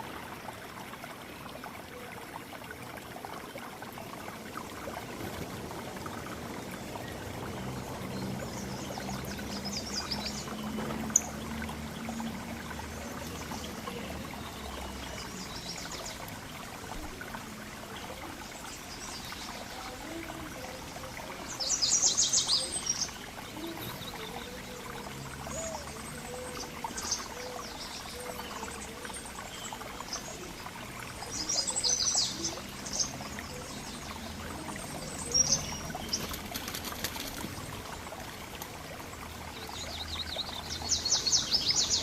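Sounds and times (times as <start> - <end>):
water trickling: 0.0 - 42.0.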